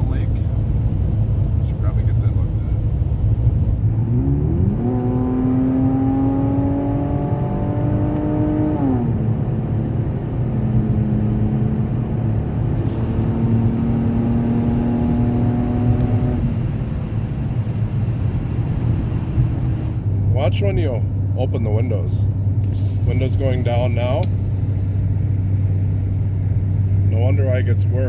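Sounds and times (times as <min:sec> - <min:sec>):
car engine and loud exhaust rumble: 0:00.0 - 0:28.0.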